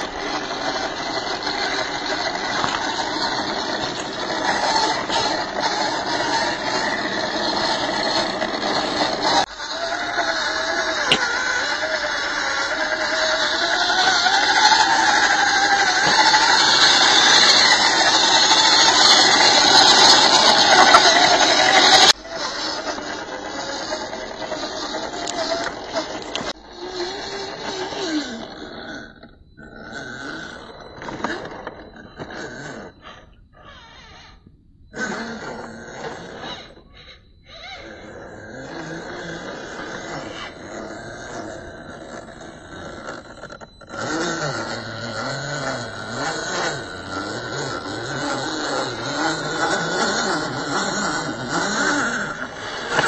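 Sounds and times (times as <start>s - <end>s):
small electric motor whining: 0.0s - 53.0s.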